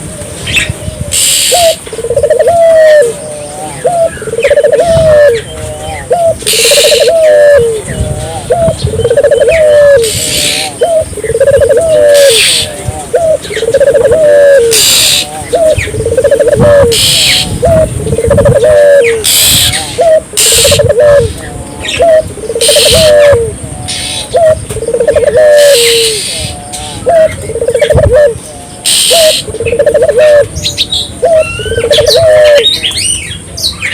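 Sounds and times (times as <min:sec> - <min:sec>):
small birds chirping: 0:00.5 - 0:33.9
dove cooing: 0:00.9 - 0:32.9.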